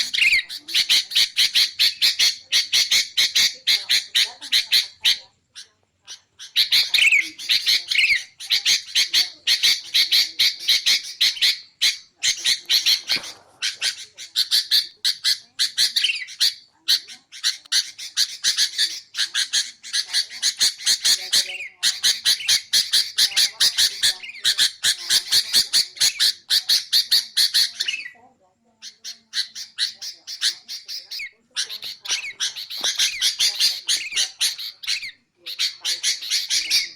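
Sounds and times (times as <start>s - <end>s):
bird harsh chattering calls: 0.0s - 28.2s, 28.8s - 36.9s.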